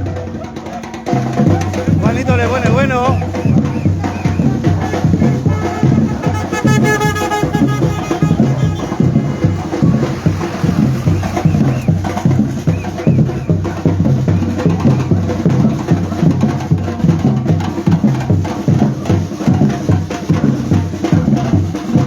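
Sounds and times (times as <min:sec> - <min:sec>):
drum ensemble playing: 0:00.0 - 0:22.0.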